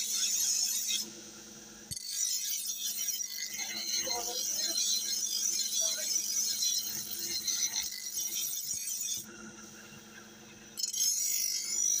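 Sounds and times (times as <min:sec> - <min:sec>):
knife grinding on grinding wheel: 0:00.0 - 0:01.1, 0:01.9 - 0:09.3, 0:10.8 - 0:12.0.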